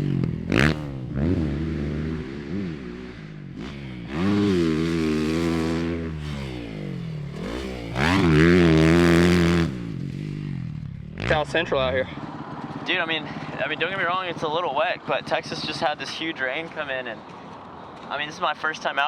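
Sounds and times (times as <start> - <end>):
dirt bike engine revving: 0.0 - 15.8.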